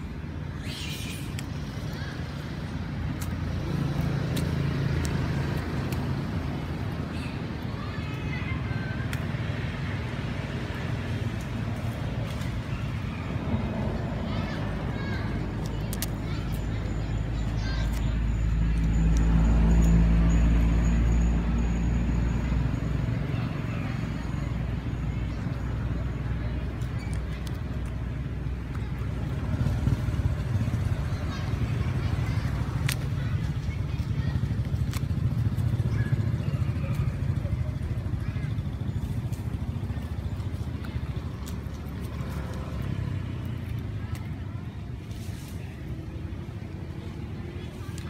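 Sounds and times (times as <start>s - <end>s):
passing vehicle engine rumble: 0.0s - 48.0s.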